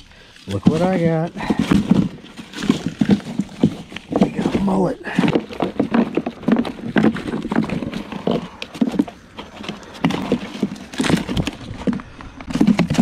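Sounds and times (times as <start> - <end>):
fish flopping against plastic cooler: 0.4 - 13.0.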